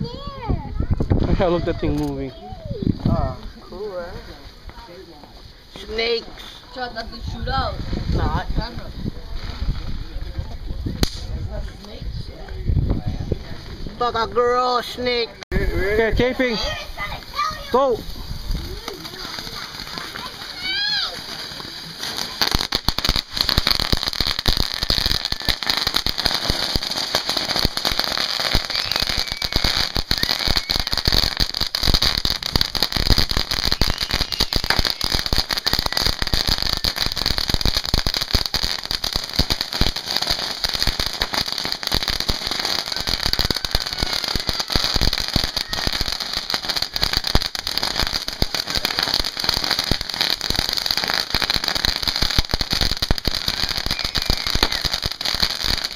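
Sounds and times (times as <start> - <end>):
fountain fireworks hissing and crackling: 0.0 - 55.9.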